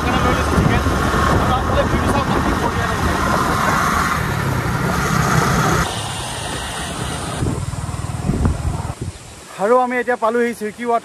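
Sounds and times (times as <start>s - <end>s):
motorcycle engine running: 0.0s - 9.0s
wind rushing over microphone: 0.0s - 9.5s.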